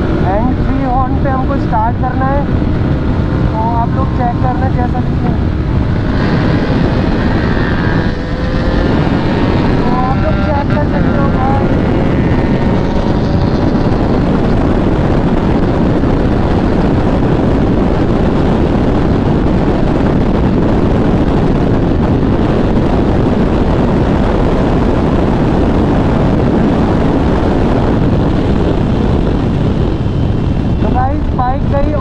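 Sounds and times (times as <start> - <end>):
motorcycle engine at high revs: 0.0 - 32.0
wind rushing over microphone: 0.0 - 32.0.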